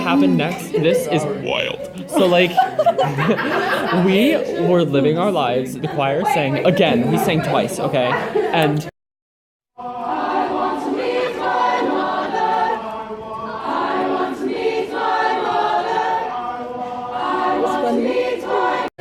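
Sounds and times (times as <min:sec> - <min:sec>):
choir singing: 0:00.0 - 0:08.9, 0:09.8 - 0:19.0.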